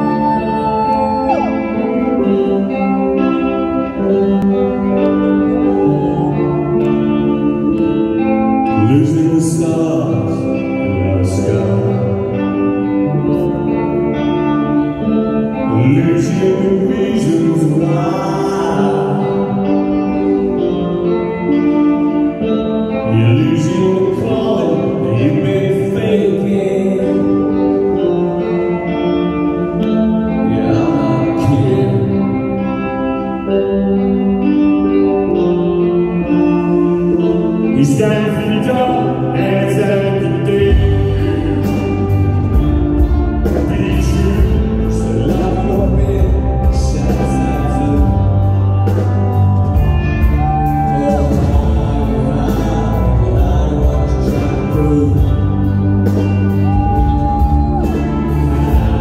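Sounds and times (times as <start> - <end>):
male lead vocal: 0.0 - 59.0
rock band playing live: 0.0 - 59.0.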